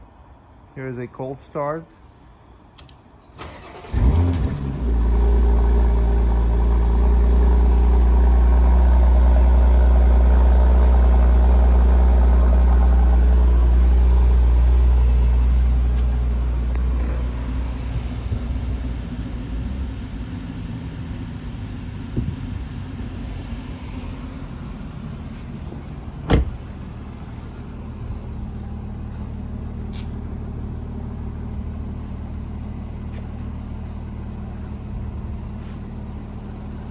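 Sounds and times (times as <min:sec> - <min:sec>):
car engine idling: 0:03.4 - 0:36.9.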